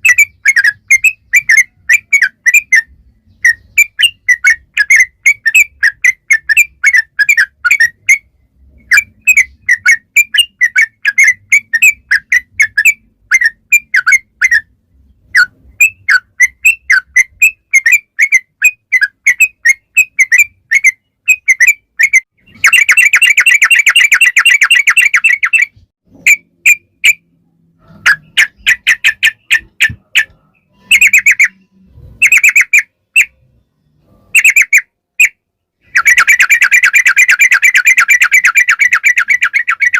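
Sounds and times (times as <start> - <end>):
bulbul singing chirping notes: 0.0 - 27.4, 28.0 - 39.9
fast bird trill: 0.0 - 33.4, 34.0 - 39.9.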